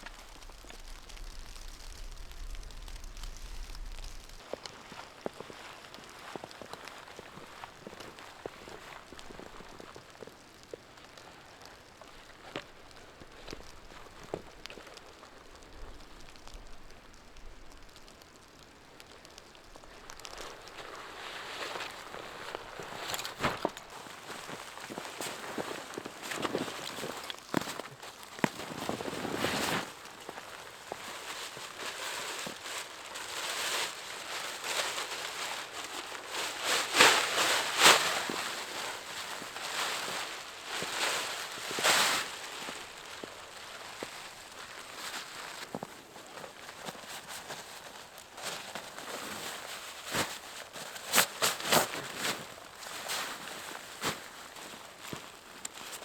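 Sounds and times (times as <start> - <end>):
dense rustling noise: 0.0 - 56.0
faint steady hiss: 0.0 - 56.0
snow pattering: 0.0 - 56.0.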